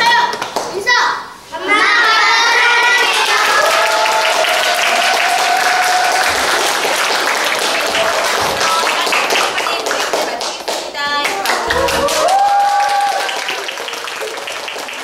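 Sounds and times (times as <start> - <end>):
hands clapping: 0.2 - 0.8, 3.0 - 15.0.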